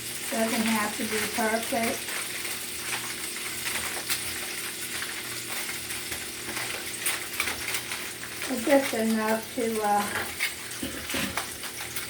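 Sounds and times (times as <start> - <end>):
aluminum foil crinkling: 0.0 - 12.0
food sizzling in hot grease: 0.0 - 12.0.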